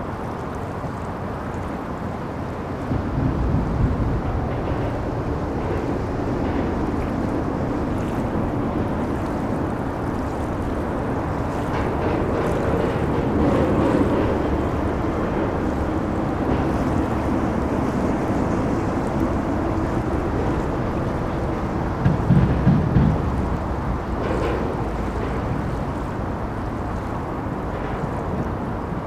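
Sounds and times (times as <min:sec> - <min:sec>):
river water rushing: 0:00.0 - 0:29.0
traffic hum on bridge: 0:00.0 - 0:29.0.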